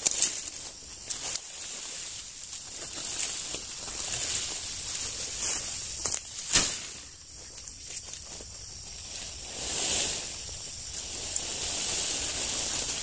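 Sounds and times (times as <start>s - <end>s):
grass and fronds rustling: 0.0s - 13.0s
high hiss: 0.0s - 13.0s.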